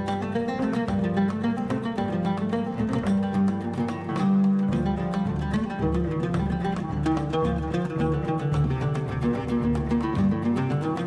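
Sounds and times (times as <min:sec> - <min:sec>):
plucked-string music: 0:00.0 - 0:11.0.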